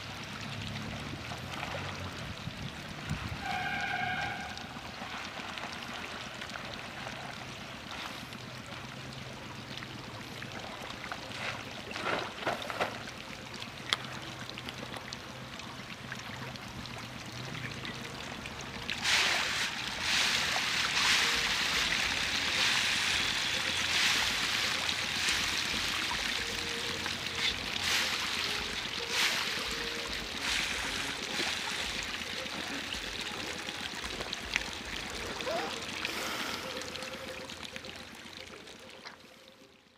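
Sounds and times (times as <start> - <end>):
water splashing and fizzing: 0.0 - 39.6.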